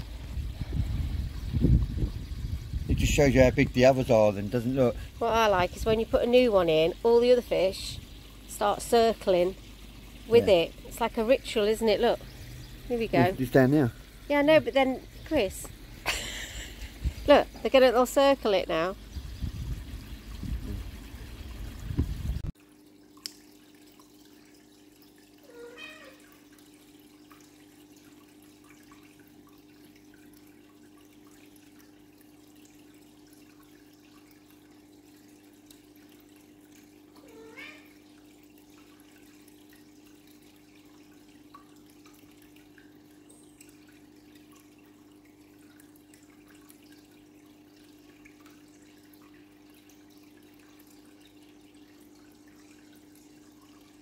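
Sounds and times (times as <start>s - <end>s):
pond water trickling: 0.0s - 54.0s.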